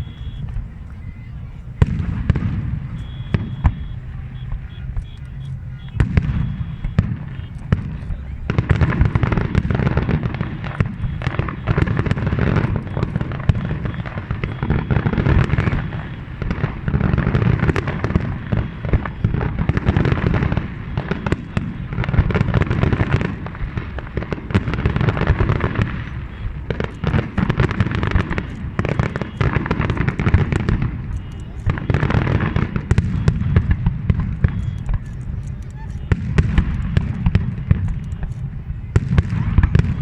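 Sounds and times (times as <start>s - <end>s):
fireworks booming and crackling: 0.0s - 40.0s.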